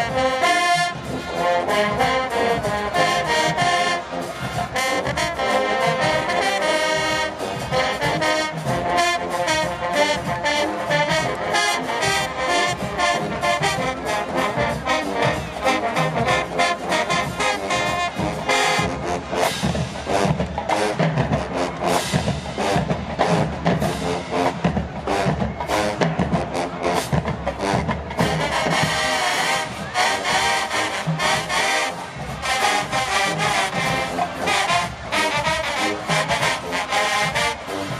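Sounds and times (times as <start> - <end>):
brass horn chords: 0.0 - 37.9
marching band playing: 0.0 - 37.9.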